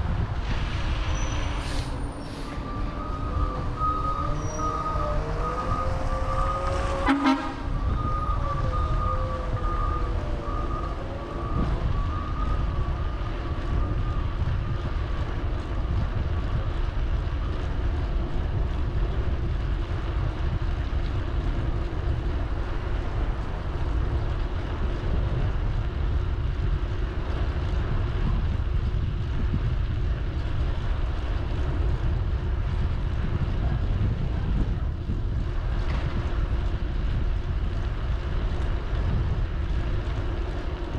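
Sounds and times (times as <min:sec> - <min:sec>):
road and traffic noise: 0:00.0 - 0:40.9
wind rumble on microphone: 0:00.0 - 0:40.9.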